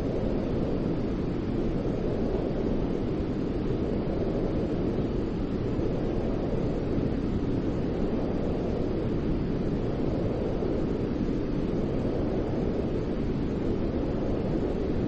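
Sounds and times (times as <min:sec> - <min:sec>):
deep white noise hiss: 0:00.0 - 0:15.0.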